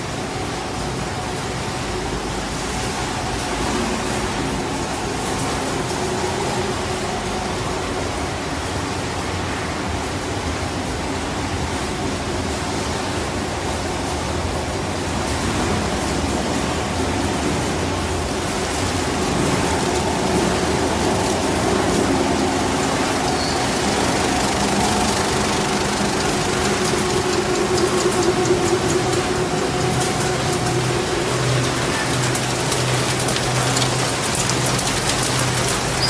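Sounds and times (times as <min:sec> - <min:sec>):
steady machinery noise: 0:00.0 - 0:36.0.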